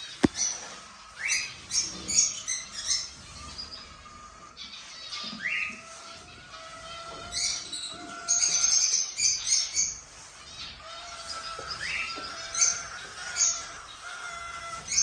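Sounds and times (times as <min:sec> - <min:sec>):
cockatiels chirping and calling: 0:00.3 - 0:15.0.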